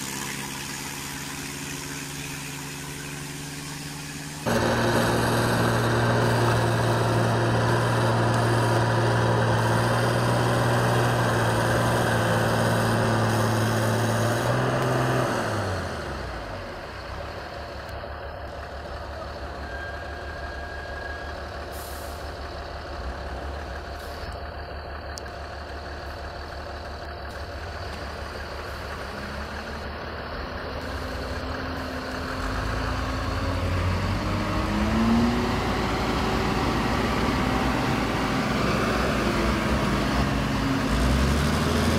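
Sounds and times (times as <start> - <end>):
heavy diesel truck engine: 0.0 - 41.9.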